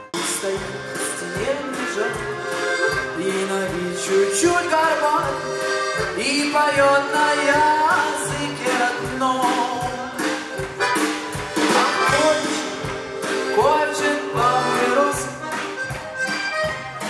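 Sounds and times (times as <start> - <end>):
button accordion: 0.0 - 17.0
steady beat: 0.0 - 17.0
man singing: 0.1 - 10.7, 11.6 - 15.7.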